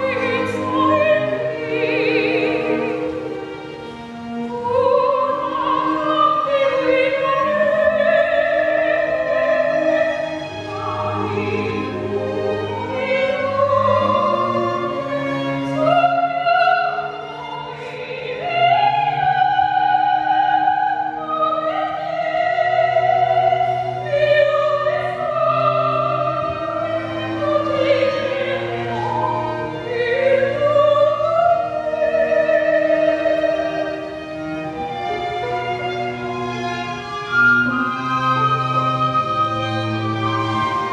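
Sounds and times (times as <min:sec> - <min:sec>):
low instrumental accompaniment: 0:00.0 - 0:40.9
operatic singing with vibrato: 0:00.0 - 0:40.9.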